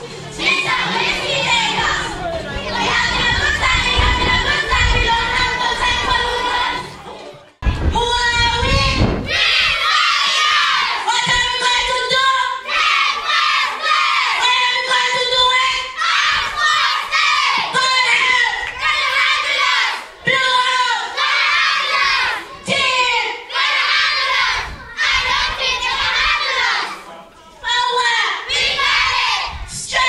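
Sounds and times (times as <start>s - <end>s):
children chanting a cheer: 0.0s - 7.0s, 8.4s - 30.0s.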